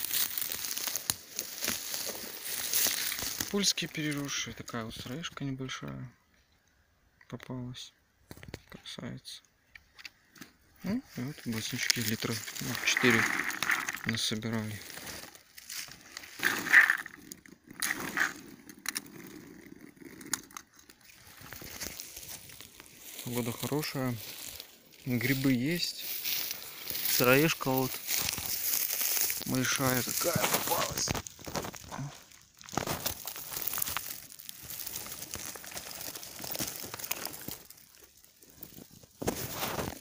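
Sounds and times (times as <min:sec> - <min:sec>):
berries and leaves rustling: 0:00.0 - 0:04.5, 0:10.2 - 0:40.0.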